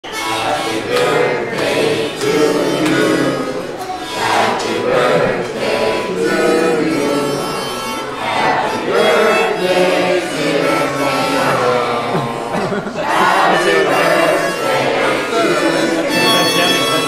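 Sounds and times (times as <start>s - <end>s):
harmonica playing a tune: 0.0s - 17.0s.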